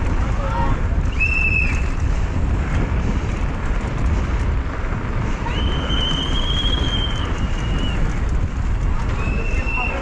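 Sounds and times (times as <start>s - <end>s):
bike rattling over cobblestones: 0.0s - 10.0s
wind on camera: 0.0s - 10.0s.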